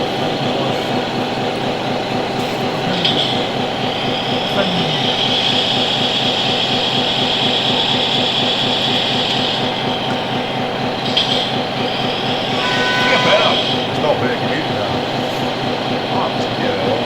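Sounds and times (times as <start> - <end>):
electric drive whine: 0.0 - 17.0
rhythmic chugging: 0.0 - 17.0.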